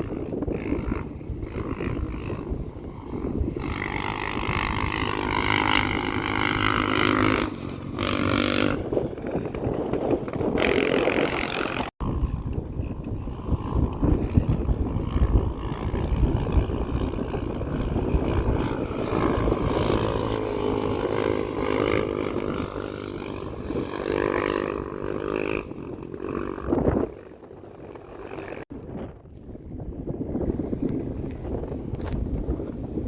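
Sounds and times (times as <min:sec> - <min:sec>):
motorcycle engines revving: 0:00.0 - 0:28.8
wind buffeting microphone: 0:00.0 - 0:33.0.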